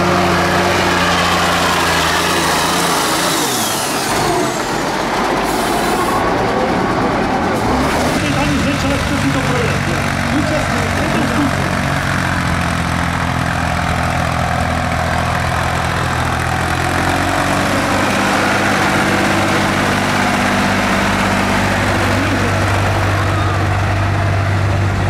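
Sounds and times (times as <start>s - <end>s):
tractor engines running: 0.0s - 25.0s.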